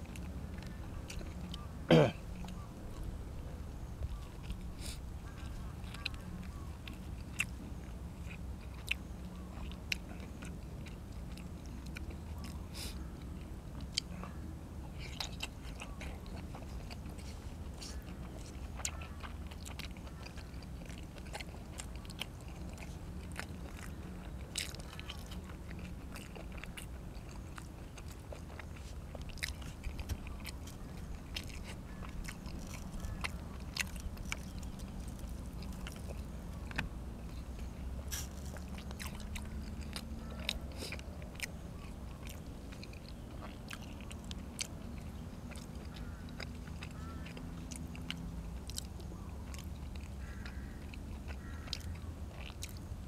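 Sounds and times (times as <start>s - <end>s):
person chewing food: 0.0s - 53.0s
steady low hum: 0.0s - 53.0s.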